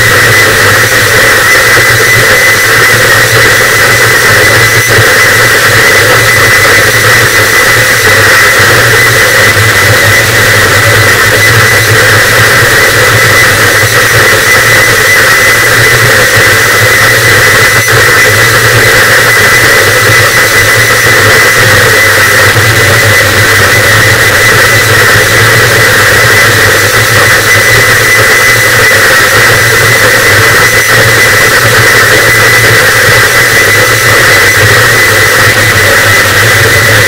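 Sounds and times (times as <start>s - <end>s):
dense distorted static: 0.0s - 37.0s
thin steady tone: 0.0s - 37.0s.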